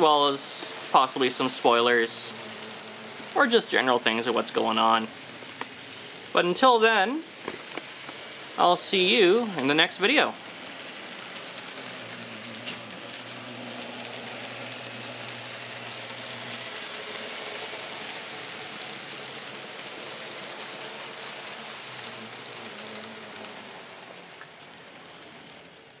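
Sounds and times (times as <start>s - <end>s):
low motor hum: 0.0s - 6.4s, 9.4s - 26.0s
model train wheels clattering: 0.0s - 26.0s.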